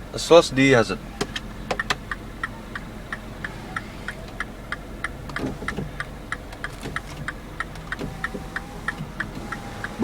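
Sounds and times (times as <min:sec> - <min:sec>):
hazard light flasher ticking: 0:01.8 - 0:10.0.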